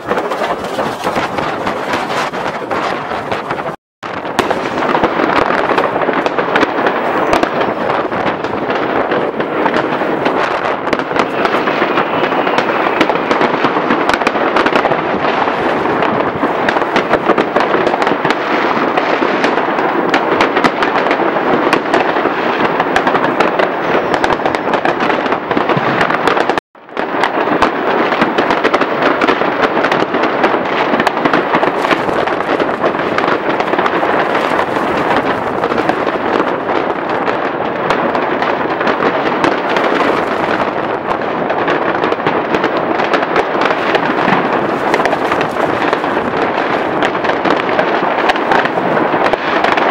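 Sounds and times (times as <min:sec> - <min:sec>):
fireworks crackling and banging: 0:00.0 - 0:49.9.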